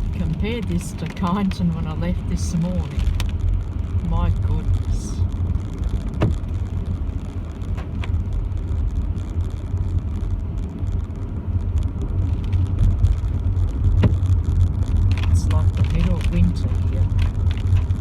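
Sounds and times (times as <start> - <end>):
car low rumble: 0.0 - 18.0.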